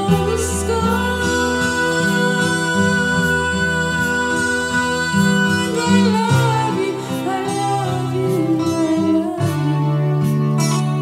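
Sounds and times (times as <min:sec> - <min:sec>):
acoustic guitar chords: 0:00.0 - 0:11.0
woman singing: 0:00.0 - 0:11.0.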